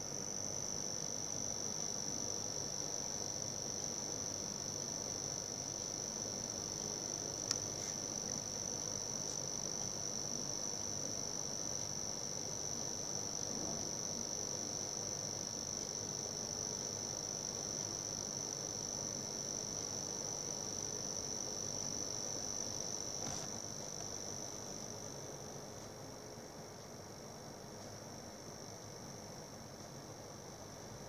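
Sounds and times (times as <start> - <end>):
power supply high-pitched buzz: 0.0 - 26.9.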